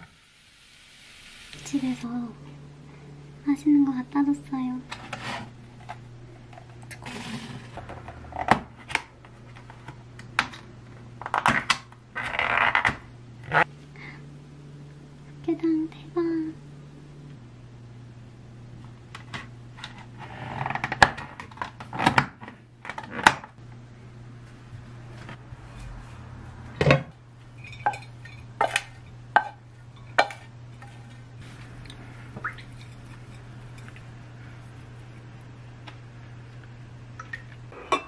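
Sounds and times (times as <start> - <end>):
steady low hum: 0.7 - 38.0.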